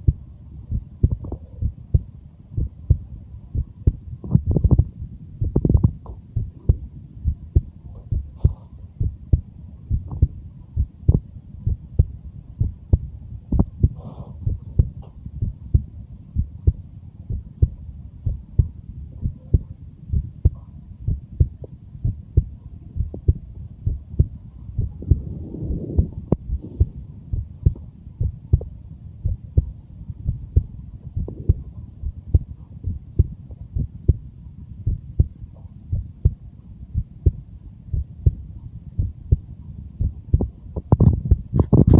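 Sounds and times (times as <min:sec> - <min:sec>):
heartbeat thumps: 0:00.0 - 0:41.9
low rumble: 0:00.0 - 0:41.9.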